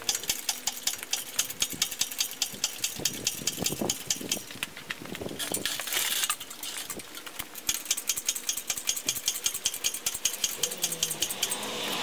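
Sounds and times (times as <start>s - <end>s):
hoist chain clicking and rattling: 0.0s - 12.0s.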